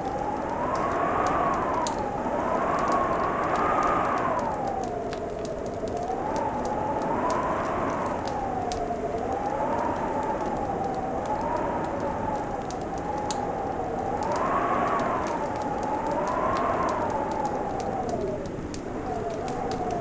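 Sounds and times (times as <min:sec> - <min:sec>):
fireplace crackling and popping: 0:00.0 - 0:20.0
howling wind: 0:00.0 - 0:20.0.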